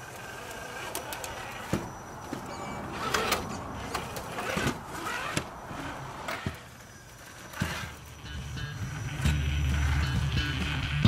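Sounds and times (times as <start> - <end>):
small electric motor whirring: 0.0 - 2.2, 2.9 - 10.6.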